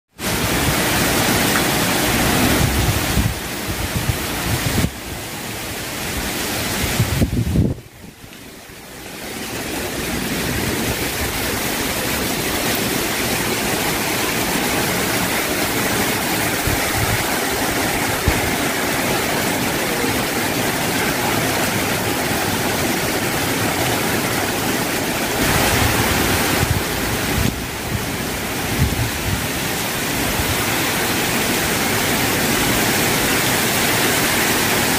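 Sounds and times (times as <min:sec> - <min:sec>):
heavy rain pouring: 0:00.1 - 0:34.9
wind gusting on microphone: 0:00.2 - 0:34.9.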